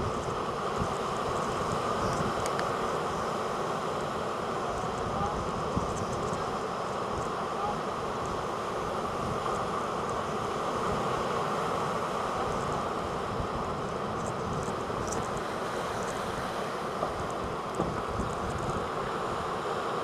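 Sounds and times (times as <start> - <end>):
wind buffeting microphone: 0.0 - 19.5
surf rushing: 0.0 - 20.0.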